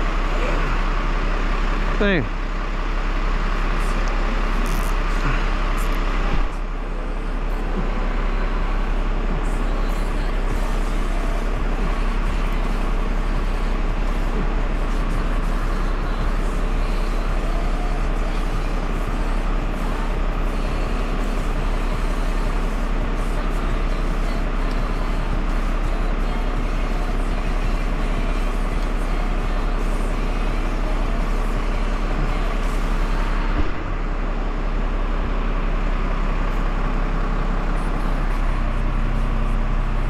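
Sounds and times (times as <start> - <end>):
truck engine running under load: 0.0 - 40.0.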